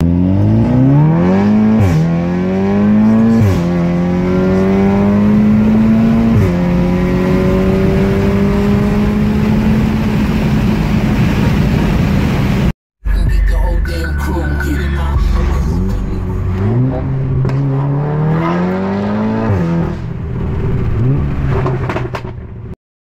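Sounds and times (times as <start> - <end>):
car engine accelerating: 0.0 - 12.7, 13.9 - 22.8.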